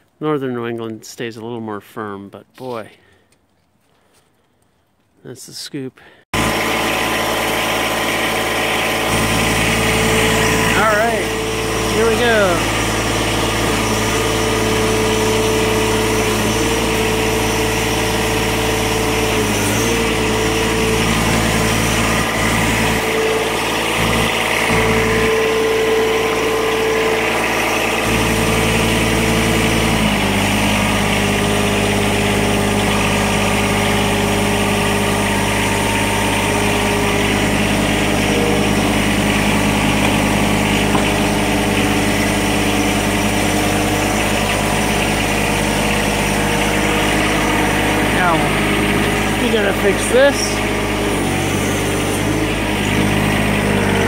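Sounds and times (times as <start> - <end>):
tractor diesel engine running: 6.3 - 54.0.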